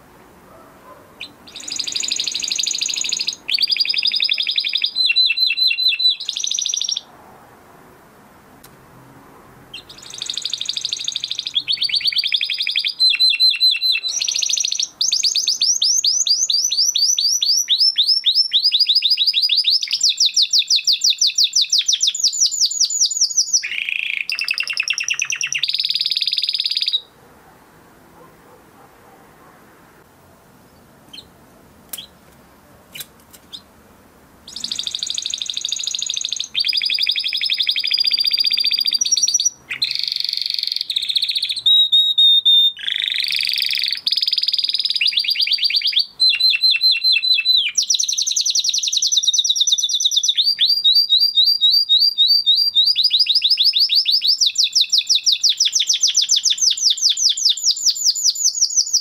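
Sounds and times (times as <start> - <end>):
canary singing fast trills: 0.5 - 7.1, 9.7 - 27.1, 30.6 - 32.3, 32.9 - 33.7, 34.4 - 59.0.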